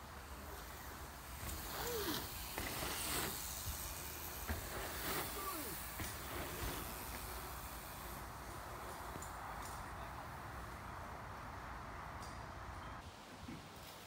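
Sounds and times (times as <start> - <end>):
bike tyres rolling over dirt: 0.0 - 12.8.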